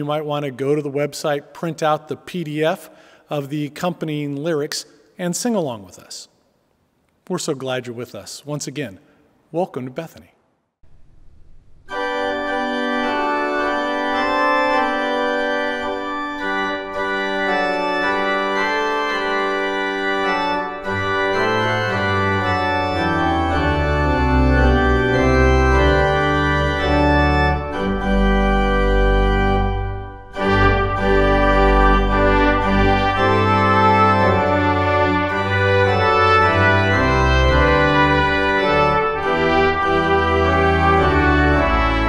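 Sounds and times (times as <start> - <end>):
church organ chords: 0.0 - 4.7, 11.9 - 42.0.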